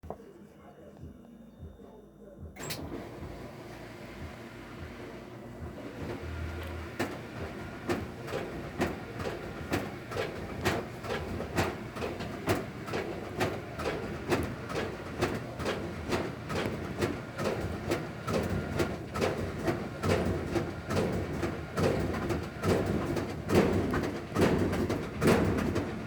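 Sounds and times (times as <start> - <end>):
washing machine running rumble: 2.5 - 26.0
washing machine knocking: 2.6 - 26.0.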